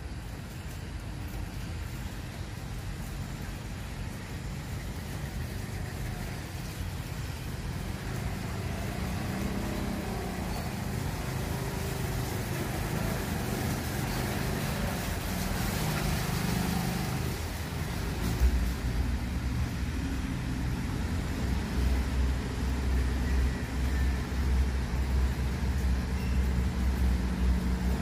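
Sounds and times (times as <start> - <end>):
diesel train engine hum: 0.0 - 28.0.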